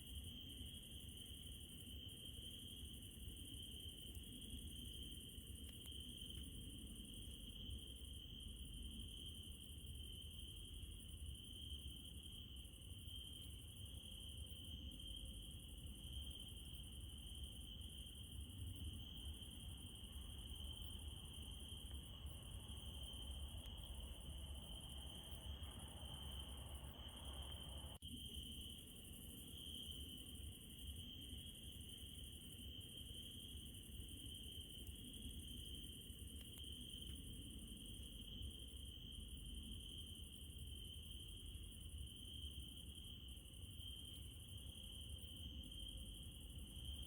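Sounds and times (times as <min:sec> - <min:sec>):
crickets chirping: 0:00.0 - 0:47.0.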